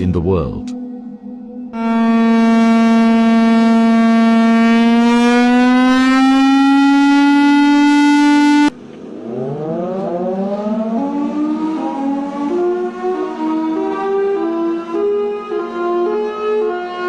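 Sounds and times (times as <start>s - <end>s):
warning siren steady tone: 0.7s - 17.0s
quieter siren winding up: 1.7s - 17.0s.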